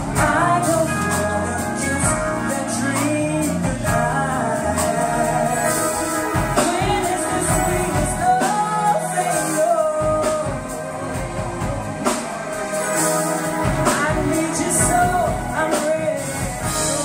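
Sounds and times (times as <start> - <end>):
woman singing: 0.0 - 12.2, 13.6 - 17.0
drum kit: 0.0 - 17.0
electric bass: 0.0 - 17.0
keyboards: 0.0 - 17.0.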